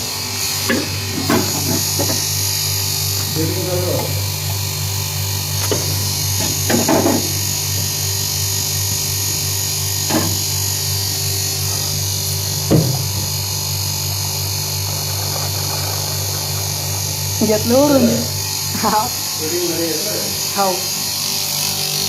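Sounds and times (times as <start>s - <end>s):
electric motor humming: 0.0s - 22.0s.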